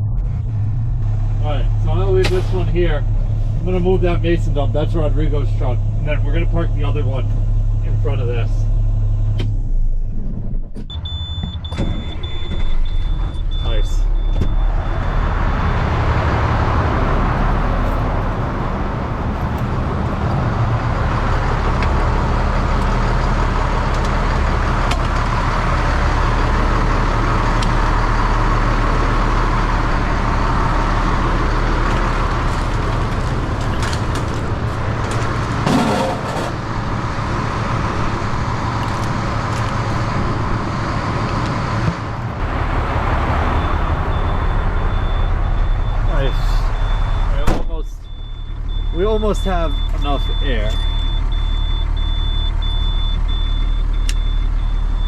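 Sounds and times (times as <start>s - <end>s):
truck engine running: 0.0s - 10.1s, 11.0s - 55.0s.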